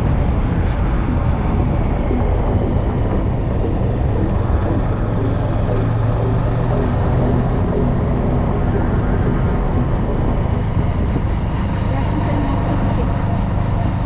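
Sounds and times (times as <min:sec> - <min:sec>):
motorcycle engine hum: 0:00.0 - 0:14.0
wind buffeting microphone: 0:00.0 - 0:14.0.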